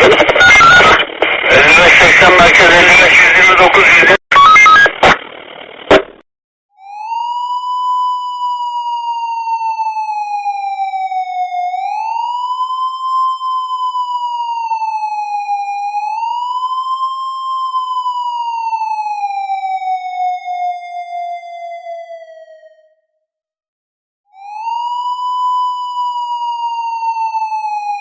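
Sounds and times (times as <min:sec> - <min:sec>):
police siren wailing: 0:00.0 - 0:04.8, 0:06.8 - 0:23.0, 0:24.3 - 0:28.0.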